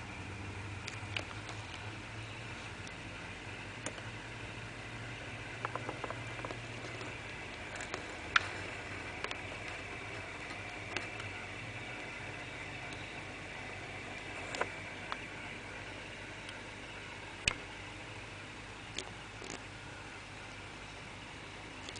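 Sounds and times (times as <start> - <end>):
aquarium equipment hum and hiss: 0.0 - 21.9.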